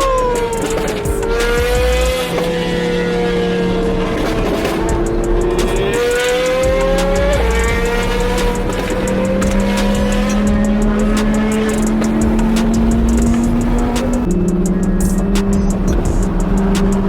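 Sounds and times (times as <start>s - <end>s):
background music with beat: 0.0s - 3.0s, 3.9s - 17.0s
sports car engine accelerating: 0.0s - 17.0s.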